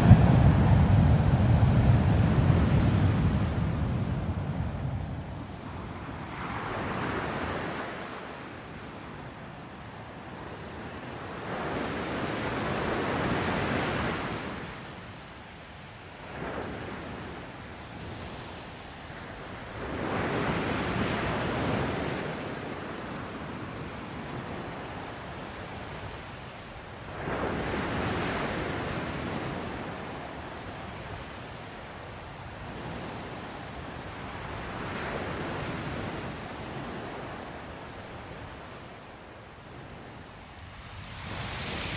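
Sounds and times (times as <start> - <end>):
waves breaking on a beach: 0.0 - 41.9.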